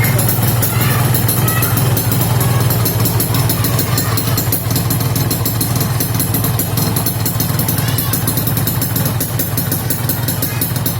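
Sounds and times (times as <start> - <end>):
two-stroke engine idling: 0.0 - 10.9.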